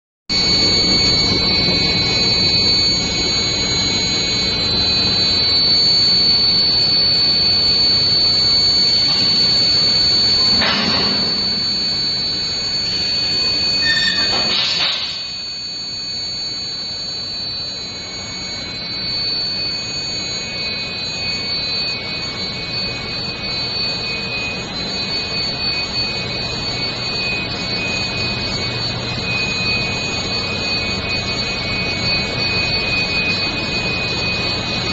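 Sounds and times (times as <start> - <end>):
constant machine noise: 0.3 - 34.9
furnace high-pitched whine: 0.3 - 34.9.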